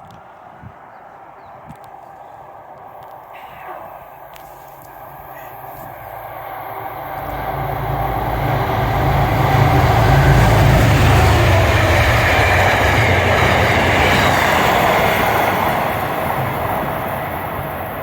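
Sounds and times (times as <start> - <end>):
train passing close by: 0.2 - 18.0.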